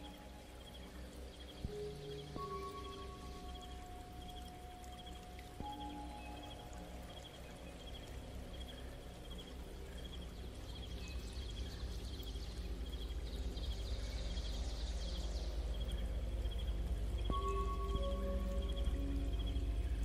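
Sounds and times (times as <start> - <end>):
cricket-like chirping: 0.0 - 20.0
low steady rumble: 0.0 - 20.0.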